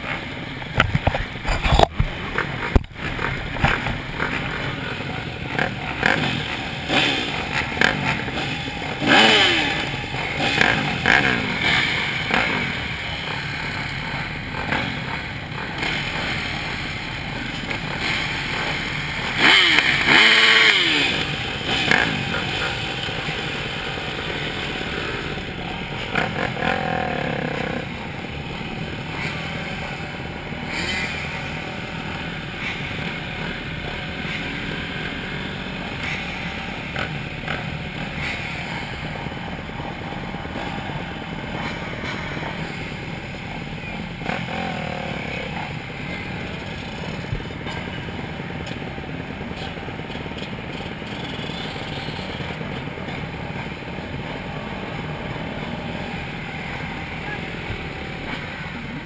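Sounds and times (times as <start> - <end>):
motorbike engines idling: 0.0 - 59.0
motorbike revving loudly: 0.0 - 59.0.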